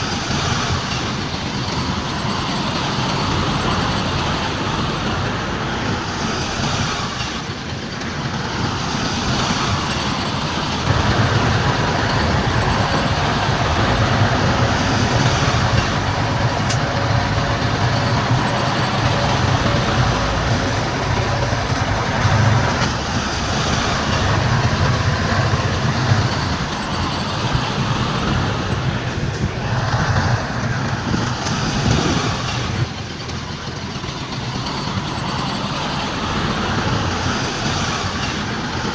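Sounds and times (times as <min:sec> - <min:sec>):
diesel machinery engine rumble: 0:00.0 - 0:38.9.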